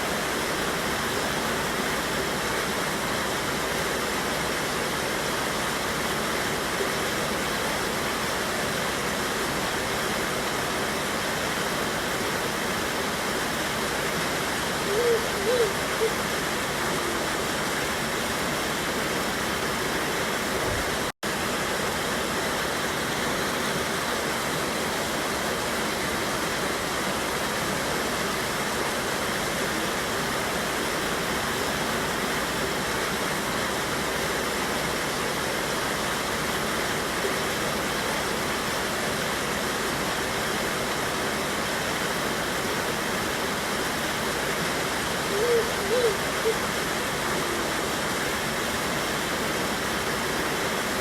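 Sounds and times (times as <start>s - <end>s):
waterfall rushing over rocks: 0.0s - 51.0s.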